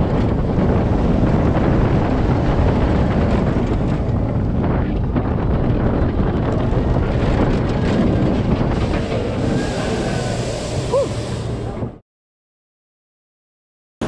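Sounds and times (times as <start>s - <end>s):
roller coaster rumble on track: 0.0s - 12.0s
wind rushing over microphone: 0.0s - 12.0s.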